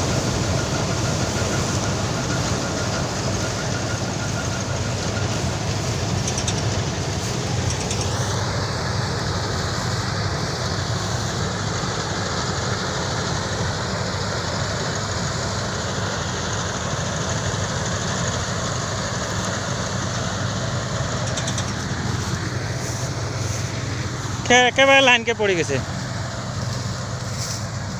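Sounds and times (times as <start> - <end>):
combine harvester engine droning: 0.0 - 27.9.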